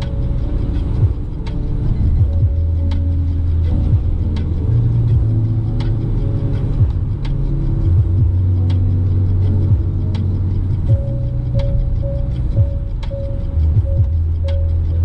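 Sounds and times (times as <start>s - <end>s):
road rumble: 0.0s - 15.0s
van diesel engine: 0.0s - 15.0s.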